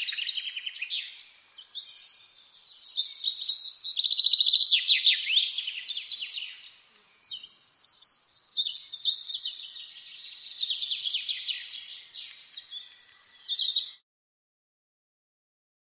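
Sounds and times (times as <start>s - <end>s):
songbird trilling: 0.0s - 14.0s.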